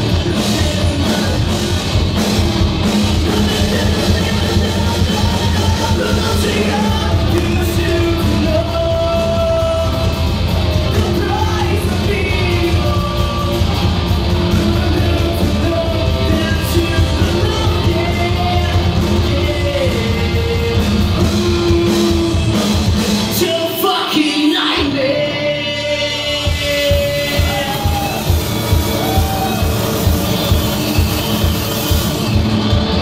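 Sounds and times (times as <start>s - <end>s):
live rock band playing: 0.0s - 33.0s
singer: 0.0s - 33.0s.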